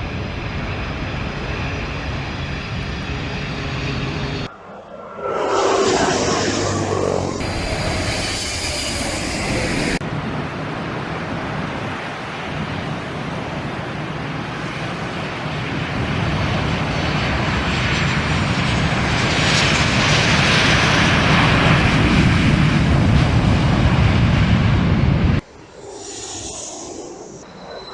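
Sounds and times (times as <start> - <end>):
jet airliner engines: 0.0 - 27.9.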